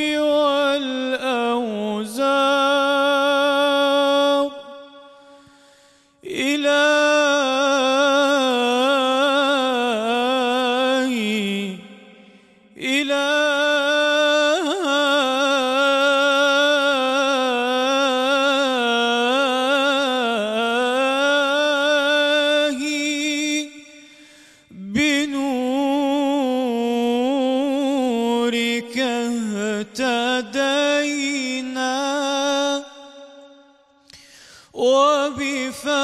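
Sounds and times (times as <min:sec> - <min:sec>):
man singing devotional chant: 0:00.0 - 0:05.5, 0:06.1 - 0:33.8, 0:34.6 - 0:36.0.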